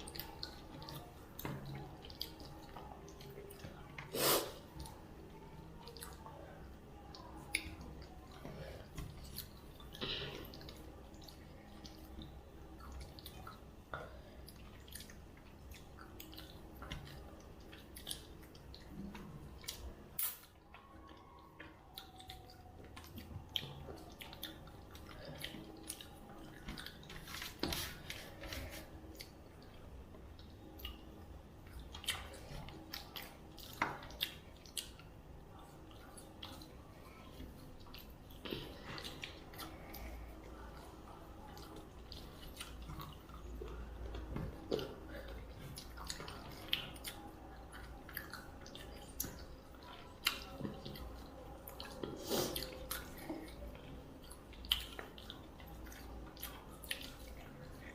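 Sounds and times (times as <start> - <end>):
chewing with mouth clicks: 0.0 - 57.9.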